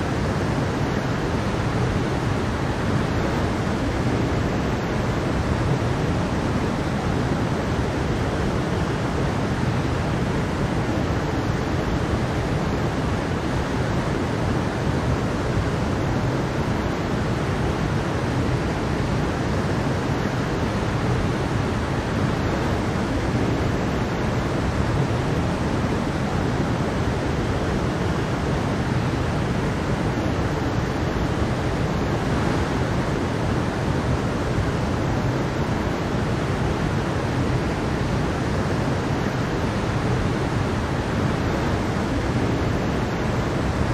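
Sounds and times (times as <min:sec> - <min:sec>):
stream rushing over rocks: 0:00.0 - 0:43.9.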